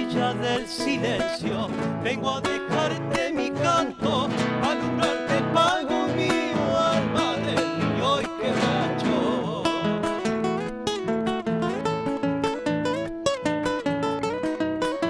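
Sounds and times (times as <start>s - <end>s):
acoustic guitar folk music: 0.0s - 15.0s.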